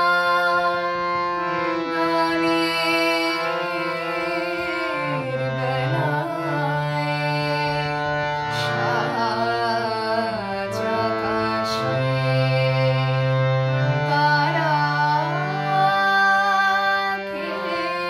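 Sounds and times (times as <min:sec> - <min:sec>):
woman singing: 0:00.0 - 0:01.1, 0:01.9 - 0:18.0
harmonium: 0:00.0 - 0:18.0.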